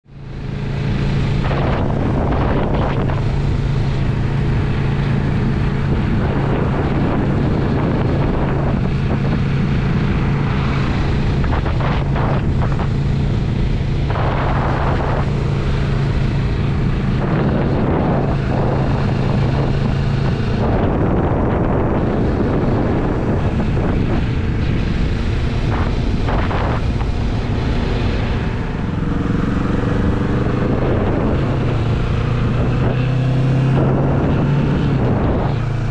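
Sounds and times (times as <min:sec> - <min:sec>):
motorcycle engine running: 0:00.1 - 0:35.9
wind noise on microphone: 0:00.1 - 0:35.9.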